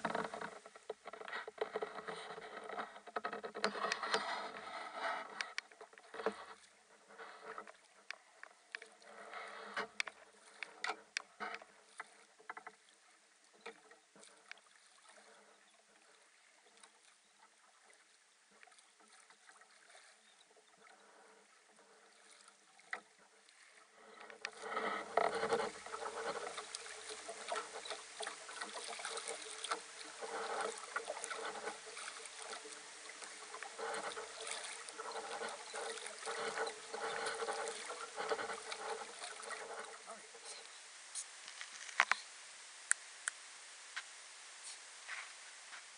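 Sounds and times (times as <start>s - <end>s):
small clicks and ticks: 0.0s - 17.2s, 18.5s - 44.8s
water splashing against hull: 0.0s - 45.9s.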